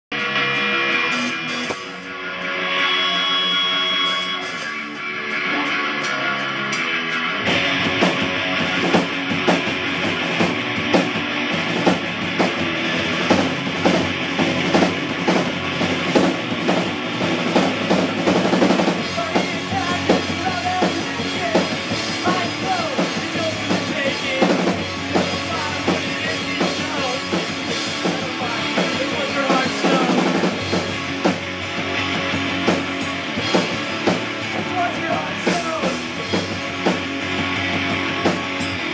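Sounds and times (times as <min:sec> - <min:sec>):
drum kit beat: 0:00.1 - 0:38.9
electric guitar: 0:00.1 - 0:38.9.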